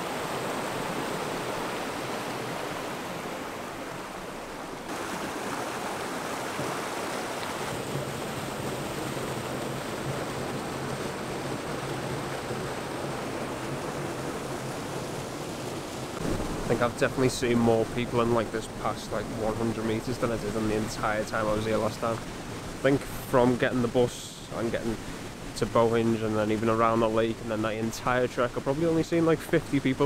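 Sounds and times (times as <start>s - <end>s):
river rushing: 0.0s - 30.0s.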